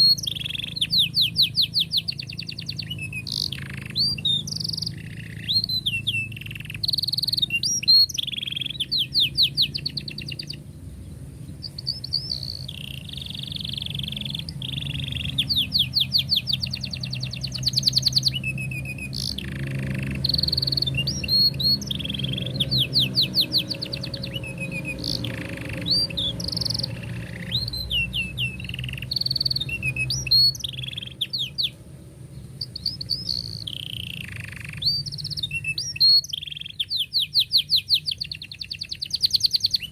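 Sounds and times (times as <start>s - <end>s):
steady low hum: 0.0s - 35.4s
canary singing trills: 0.0s - 39.9s.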